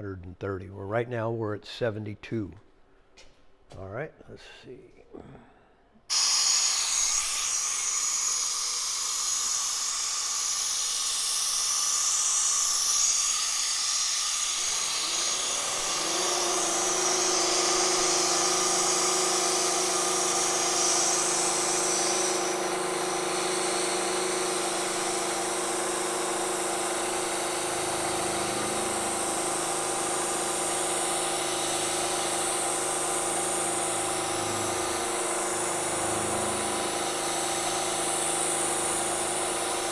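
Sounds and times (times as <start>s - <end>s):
milling machine cutting metal: 6.1s - 39.9s
steady motor hum: 6.1s - 39.9s.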